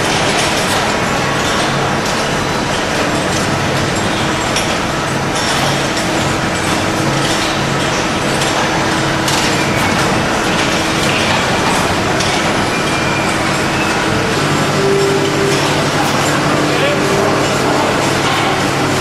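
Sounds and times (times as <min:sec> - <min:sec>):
machinery hissing: 0:00.6 - 0:19.0.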